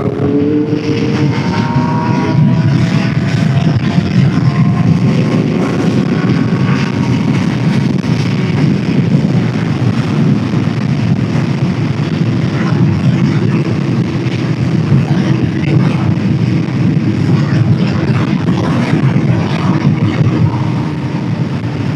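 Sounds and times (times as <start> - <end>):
motorcycle engine running: 0.0 - 21.9
road noise: 0.0 - 21.9
wind rush: 0.0 - 21.9.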